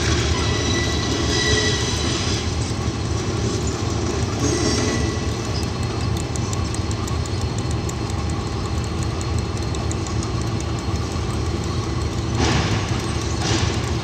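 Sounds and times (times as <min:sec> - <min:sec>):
diesel locomotives idling: 0:00.0 - 0:14.0.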